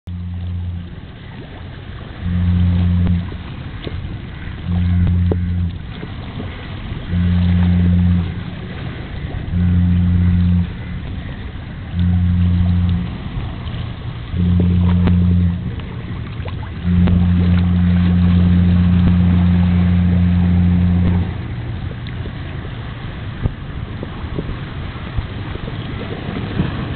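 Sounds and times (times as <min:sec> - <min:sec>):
loud low hum pulsing: 0:00.0 - 0:26.9.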